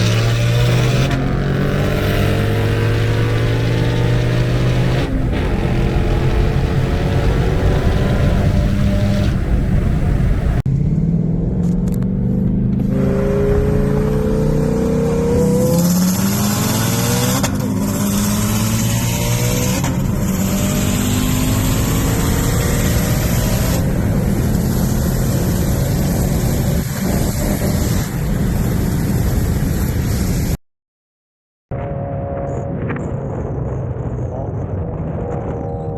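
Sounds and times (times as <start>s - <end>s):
car engine at full throttle: 0.0s - 30.6s.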